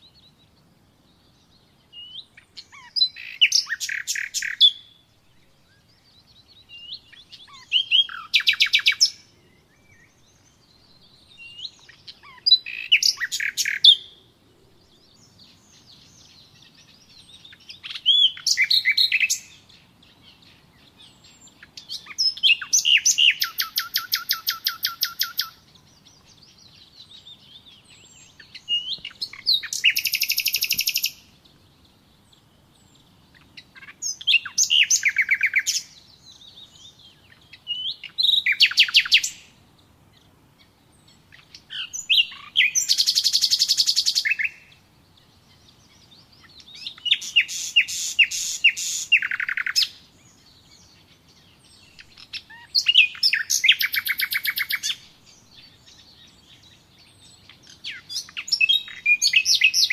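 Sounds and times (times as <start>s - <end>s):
songbird trilling: 1.2s - 14.2s, 14.9s - 59.9s
bird twittering: 1.9s - 5.0s, 6.6s - 9.2s, 11.3s - 14.2s, 15.1s - 31.3s, 32.9s - 39.5s, 41.1s - 44.8s, 45.5s - 50.0s, 50.7s - 59.9s.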